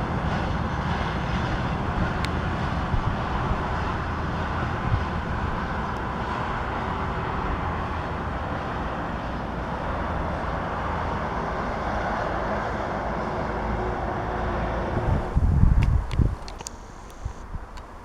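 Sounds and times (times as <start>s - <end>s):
train rumbling past: 0.0s - 16.5s
wind gusts on microphone: 0.0s - 18.0s.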